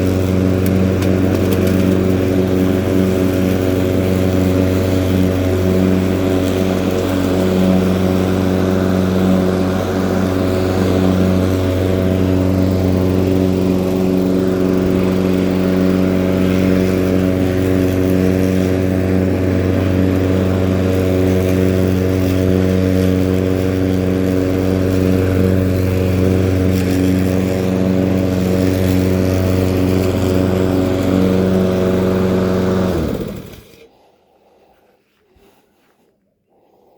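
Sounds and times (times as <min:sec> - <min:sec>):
engine winding down: 0:00.0 - 0:33.9
small petrol engine running: 0:00.0 - 0:33.9.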